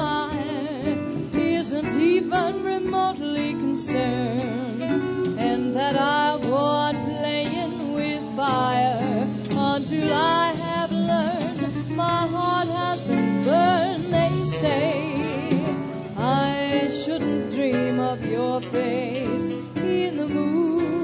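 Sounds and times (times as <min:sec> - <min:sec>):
swing band playing: 0:00.0 - 0:21.0.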